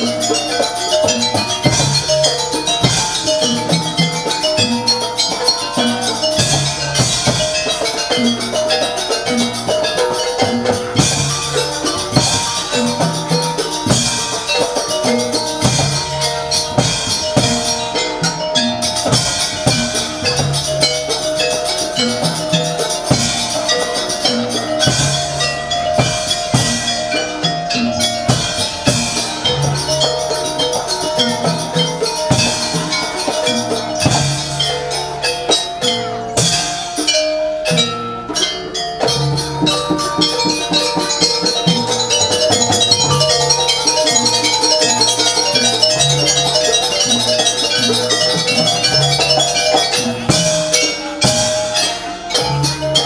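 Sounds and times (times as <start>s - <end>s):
hand drums beating: 0.0s - 53.0s
percussion ensemble: 0.0s - 53.0s
sustained melodic tones: 0.0s - 53.0s.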